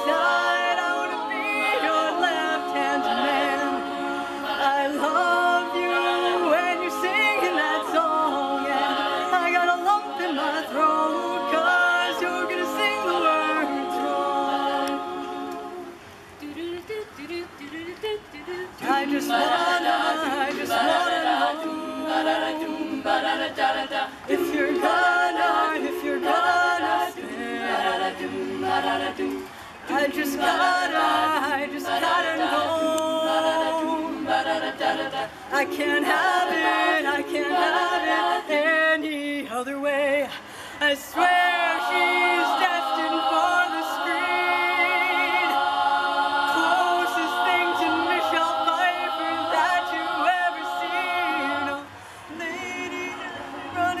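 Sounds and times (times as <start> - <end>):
vocal group singing in harmony: 0.0 - 54.0.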